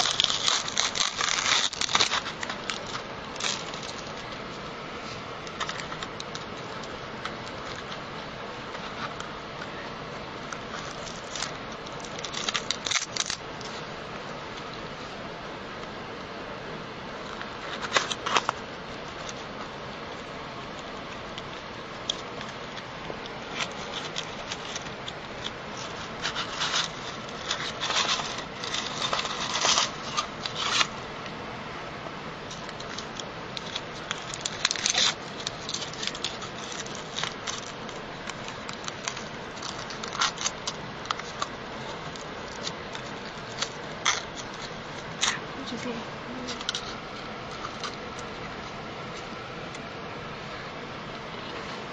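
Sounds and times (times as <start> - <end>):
foil wrappers crinkling: 0.0 - 9.8, 10.4 - 13.9, 17.2 - 19.8, 20.6 - 31.0, 32.4 - 49.9
steady hiss: 0.0 - 51.9.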